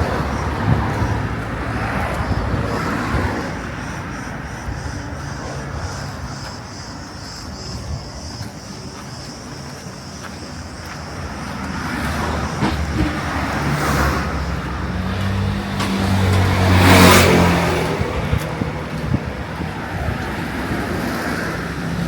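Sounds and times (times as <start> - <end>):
car passing close by: 0.0 - 6.9, 11.0 - 22.0
cicadas buzzing: 0.0 - 22.0.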